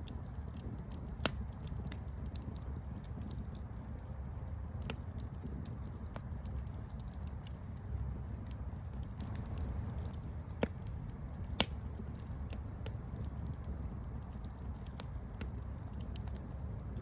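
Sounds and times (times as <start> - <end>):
campfire burning and crackling: 0.0 - 17.0.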